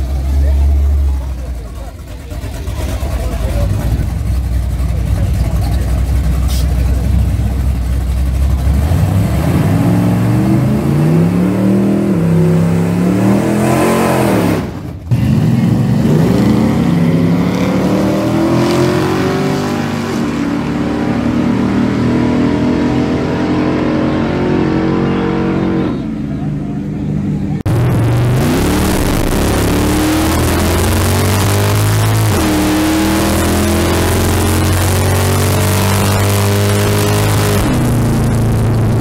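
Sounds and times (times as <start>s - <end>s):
drag vehicles accelerating: 0.0s - 39.0s.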